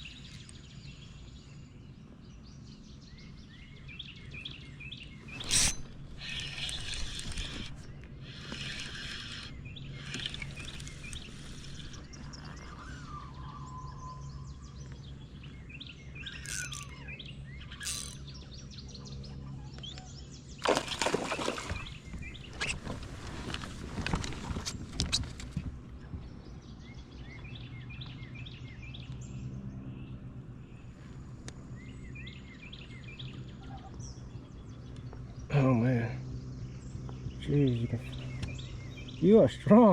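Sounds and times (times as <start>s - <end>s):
birds chirping and singing: 0.0s - 30.2s, 31.8s - 39.9s.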